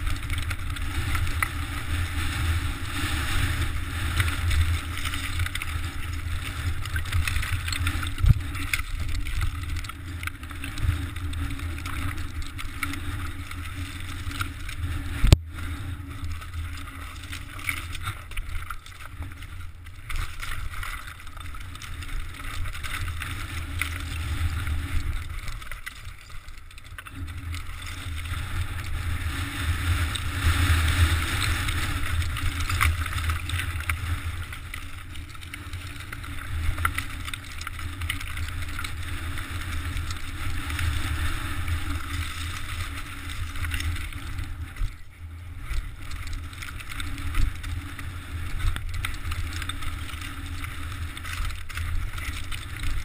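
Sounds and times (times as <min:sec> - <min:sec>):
bike rattling on rocks: 0:00.0 - 0:53.0
wind rumble on microphone: 0:00.0 - 0:53.0.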